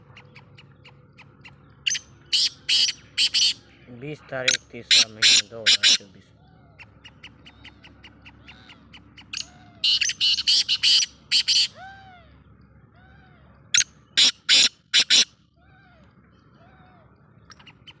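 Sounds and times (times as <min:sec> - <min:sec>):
bird calling with harsh notes: 0:00.0 - 0:18.0.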